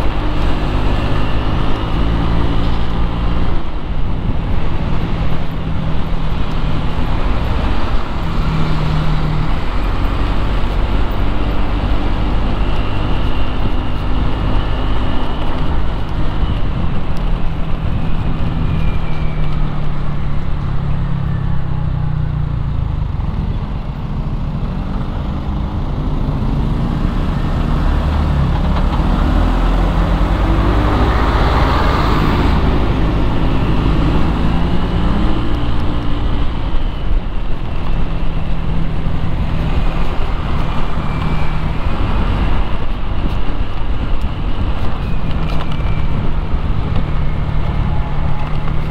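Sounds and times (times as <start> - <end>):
traffic engine drone: 0.0 - 48.9
vehicle passing rush: 0.0 - 48.9.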